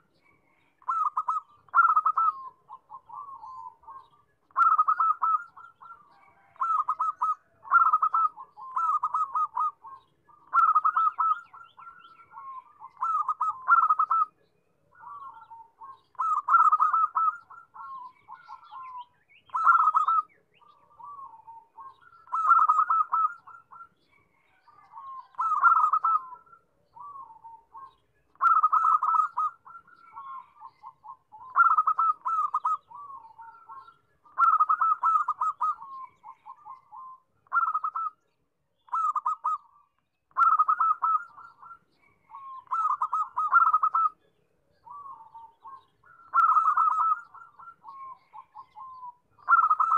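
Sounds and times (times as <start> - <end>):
dove cooing: 0.0 - 38.2, 38.9 - 49.9.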